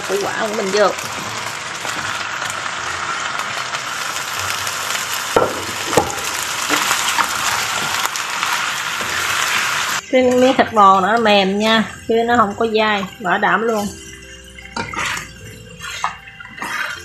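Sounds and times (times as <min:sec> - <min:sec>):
stir-fry sizzling in pan: 0:00.0 - 0:17.0.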